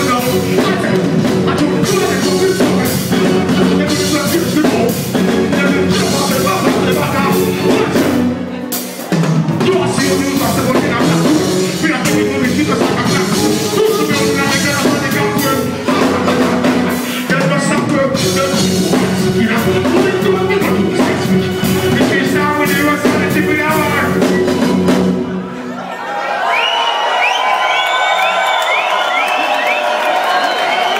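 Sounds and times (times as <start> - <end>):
person singing: 0.0 - 25.1
drum kit beat: 0.0 - 25.5
reggae band playing: 0.0 - 26.0.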